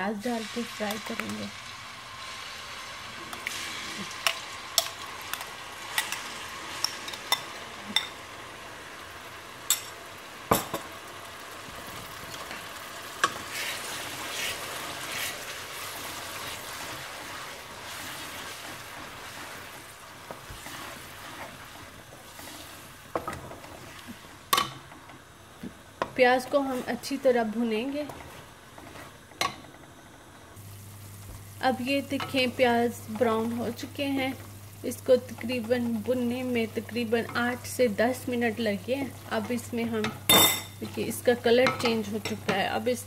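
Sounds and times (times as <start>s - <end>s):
onion paste sizzling in oil: 0.0s - 43.0s.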